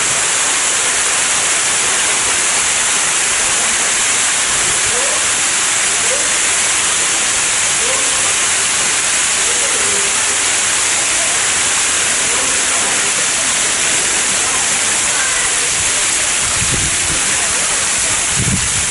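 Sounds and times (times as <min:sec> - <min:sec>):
rush of falling water: 0:00.0 - 0:18.9.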